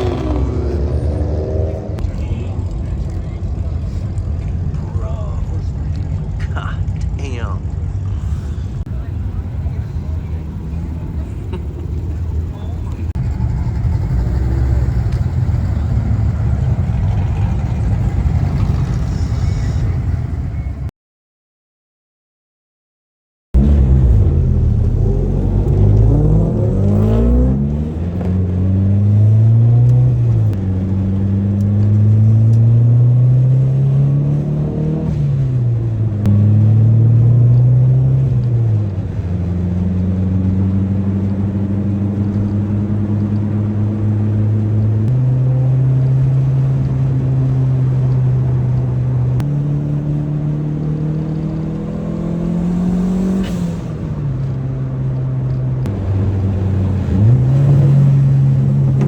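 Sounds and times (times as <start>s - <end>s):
car engine accelerating through gears: 0.0s - 6.4s, 8.8s - 19.9s, 23.6s - 59.0s.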